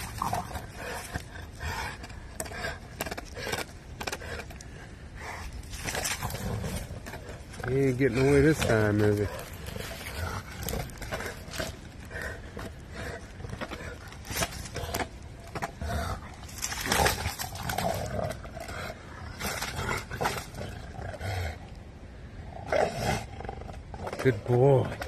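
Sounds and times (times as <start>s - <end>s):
dog growling: 0.0s - 21.7s.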